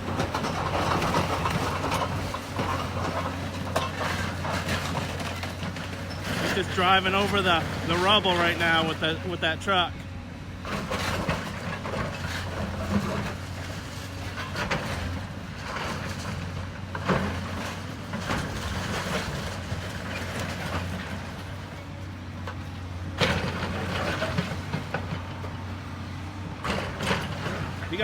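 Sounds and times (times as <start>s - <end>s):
diesel engine of demolition machinery: 0.0s - 28.0s.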